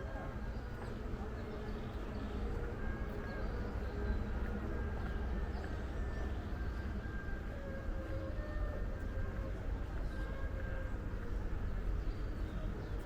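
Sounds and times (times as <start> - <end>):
faint whistle-like tones: 1.6 - 13.0.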